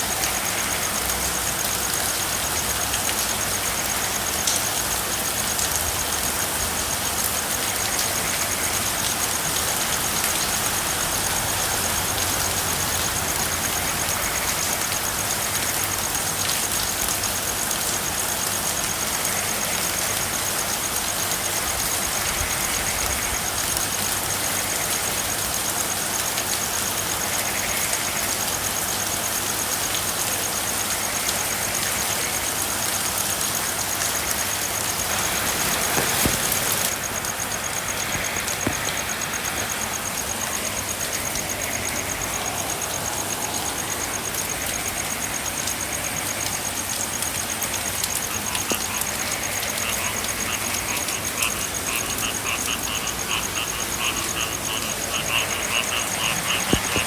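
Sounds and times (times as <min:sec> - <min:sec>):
faint frog calls: 0:00.0 - 0:57.0
rain falling: 0:00.0 - 0:57.0.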